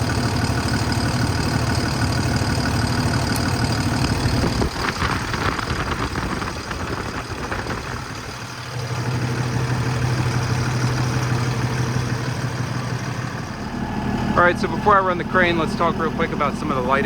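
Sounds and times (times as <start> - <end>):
diesel engine idling: 0.0 - 17.0
engine rattle: 0.0 - 17.0.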